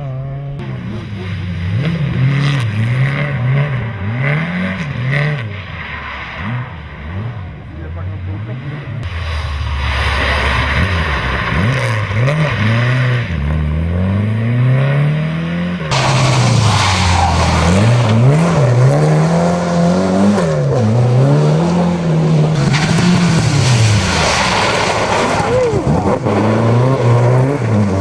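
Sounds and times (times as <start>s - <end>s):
rally car engine at full throttle: 0.0s - 28.0s
tyre and road noise: 0.0s - 28.0s.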